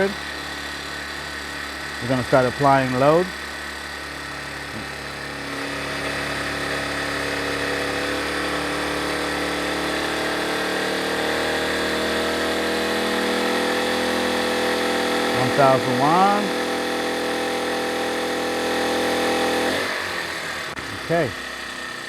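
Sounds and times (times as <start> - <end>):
generator engine running: 0.0 - 22.0.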